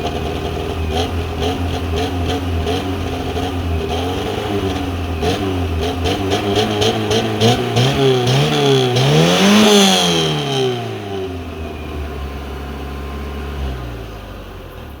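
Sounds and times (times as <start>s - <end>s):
car engine revving: 0.0s - 12.0s
car engine idling: 0.0s - 15.0s.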